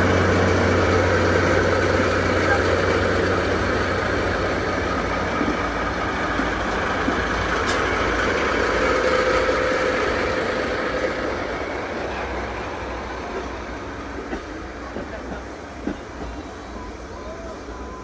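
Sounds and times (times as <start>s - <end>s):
diesel locomotive engines growling: 0.0s - 18.0s
passenger coaches rolling past: 0.0s - 18.0s.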